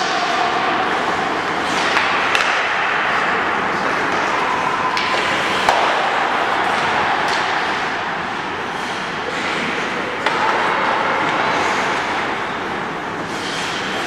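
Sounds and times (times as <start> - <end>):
sticks hitting pucks: 0.0 - 14.0
skates scraping on ice: 0.9 - 14.0.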